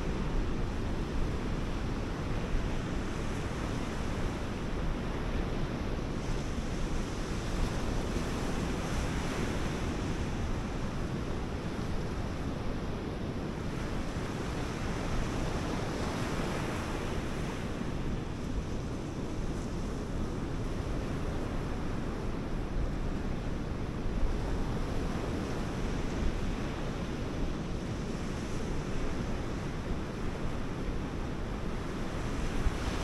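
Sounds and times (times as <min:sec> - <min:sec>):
surf washing on shore: 0:00.0 - 0:33.0.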